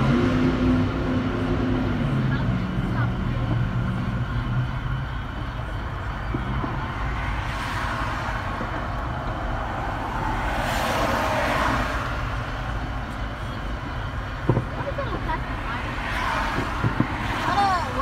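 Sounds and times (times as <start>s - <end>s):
road traffic rumbling: 0.0s - 18.0s
vehicles swishing past: 0.0s - 18.0s.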